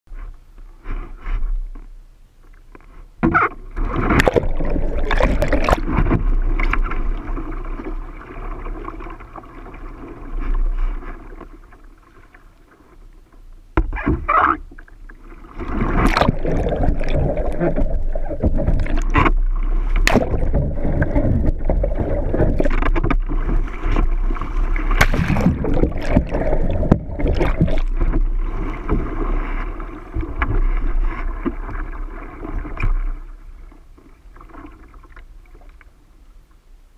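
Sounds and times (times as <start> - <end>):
water splashing around kayak: 0.1 - 36.6.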